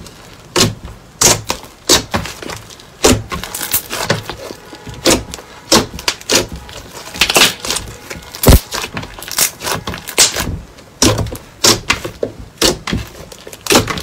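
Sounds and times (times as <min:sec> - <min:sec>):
slime crackling and popping: 0:00.0 - 0:14.0.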